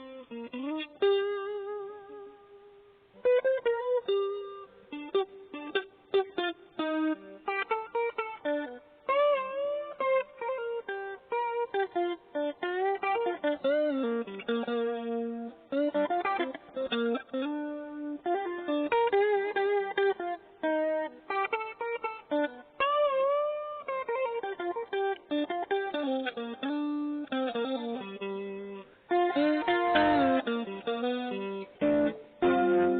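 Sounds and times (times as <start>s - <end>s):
electric guitar melody: 0.0s - 32.9s.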